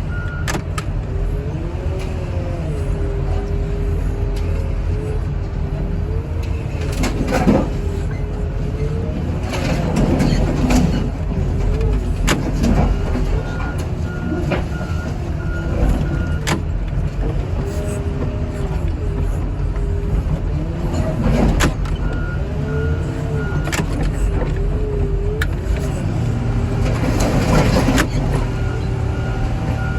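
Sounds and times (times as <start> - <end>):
diesel engine rumble and whine: 0.0 - 29.9.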